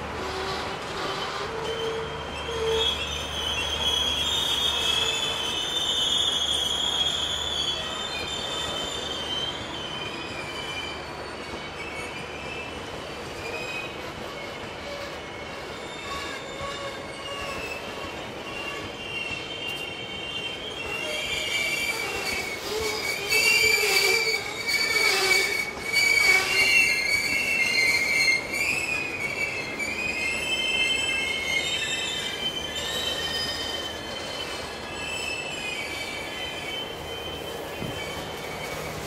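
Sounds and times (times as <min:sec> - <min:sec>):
low train rumble: 0:00.0 - 0:39.0
train wheels squealing on rails: 0:00.0 - 0:39.0.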